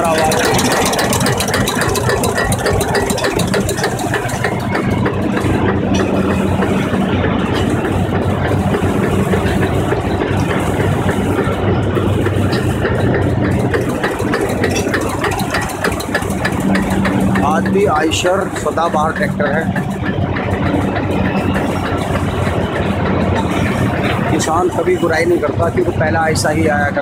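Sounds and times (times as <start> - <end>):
diesel tractor engine running: 0.0 - 27.0.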